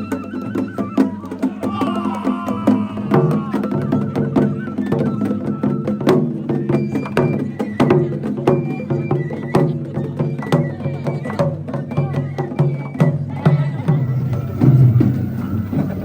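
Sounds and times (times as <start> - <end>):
percussion in quick rhythm: 0.0 - 16.0.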